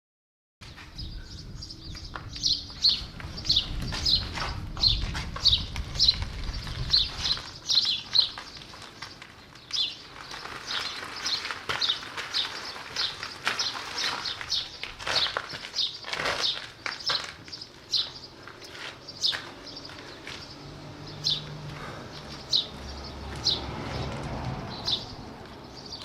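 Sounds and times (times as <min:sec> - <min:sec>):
birds chirping: 0:00.6 - 0:26.0.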